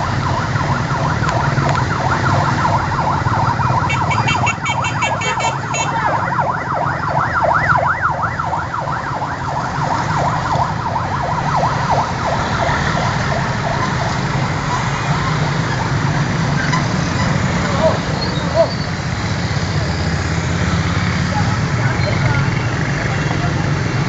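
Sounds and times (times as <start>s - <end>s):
sirens wailing: 0.0s - 24.0s
traffic rumble: 0.0s - 24.0s.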